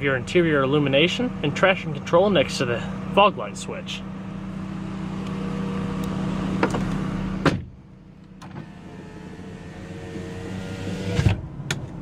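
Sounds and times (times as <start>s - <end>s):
car engine idling hum: 0.0s - 12.0s.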